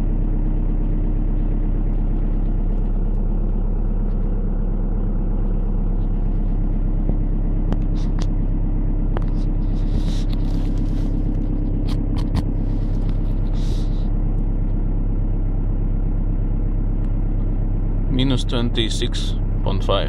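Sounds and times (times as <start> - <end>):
diesel engine idling: 0.0 - 20.0
faint engine ticks: 0.3 - 14.9, 16.9 - 19.9.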